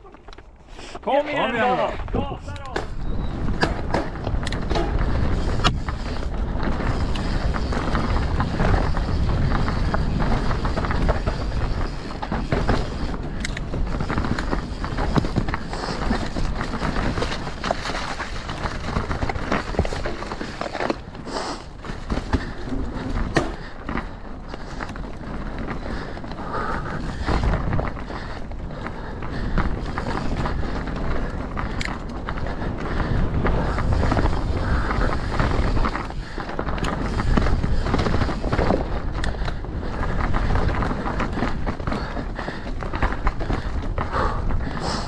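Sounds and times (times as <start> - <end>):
bike clattering over rocks: 6.8 - 44.1.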